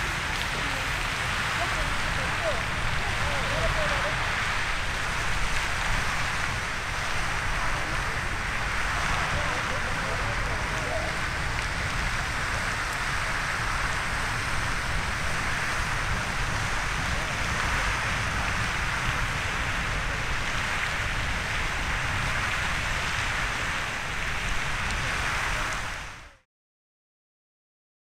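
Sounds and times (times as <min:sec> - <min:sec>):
geyser hissing steam and spray: 0:00.0 - 0:26.4.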